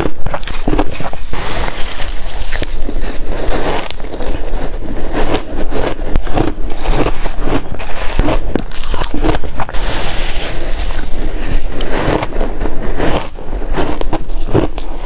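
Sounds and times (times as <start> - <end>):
chewing crunchy ice: 0.0 - 15.0.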